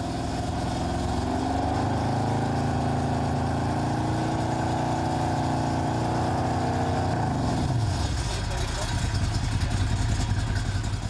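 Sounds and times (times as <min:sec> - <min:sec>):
car exhaust drone at high revs: 0:00.0 - 0:11.0.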